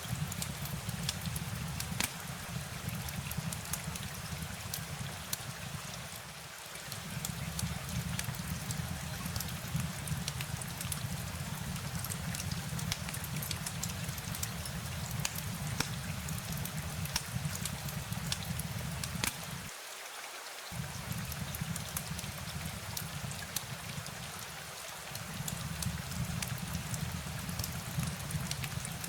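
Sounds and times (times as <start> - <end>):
sharp raindrop ticks: 0.0 - 19.7, 20.7 - 29.0
steady rain: 0.0 - 29.0.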